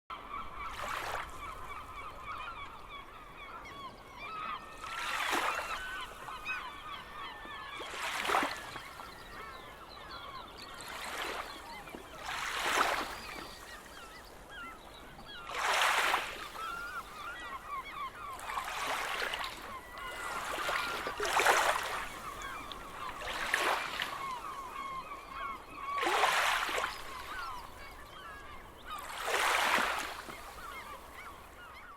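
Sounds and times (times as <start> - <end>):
flock of birds calling: 0.2 - 31.9
small waves breaking on shore: 0.2 - 31.9.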